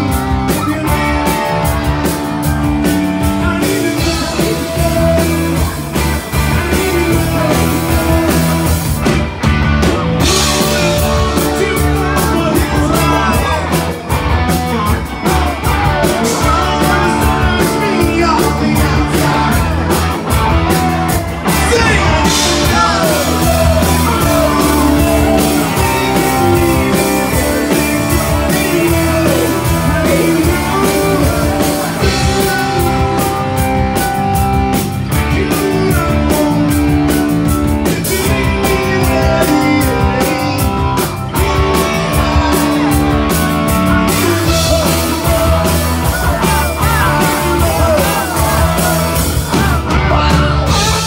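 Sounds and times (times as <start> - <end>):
drum kit: 0.0 - 51.0
electric bass: 0.0 - 51.0
electric guitar: 0.0 - 51.0
man singing into microphone: 3.2 - 8.7, 10.3 - 14.1, 14.7 - 20.0, 21.5 - 33.6, 35.0 - 51.0.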